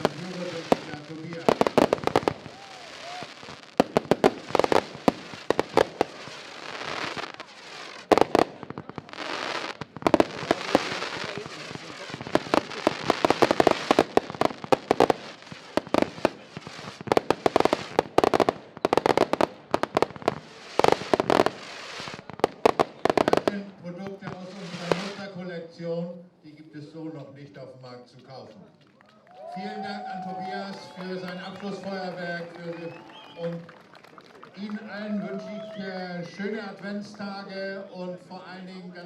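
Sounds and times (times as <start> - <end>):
fireworks bangs: 0.0 - 25.5, 29.4 - 38.8
fireworks crackling: 0.0 - 25.5, 28.4 - 39.0.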